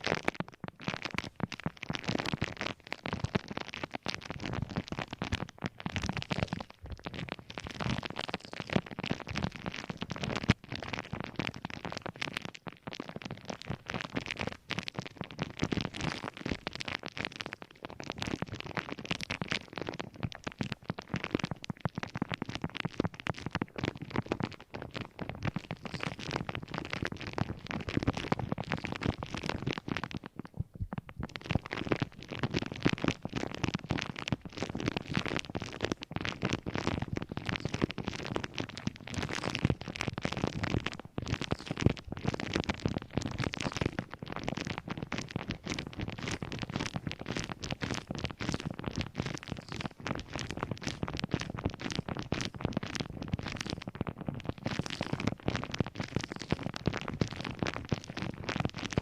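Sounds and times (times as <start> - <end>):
objects crackling while handled: 0.0 - 59.0.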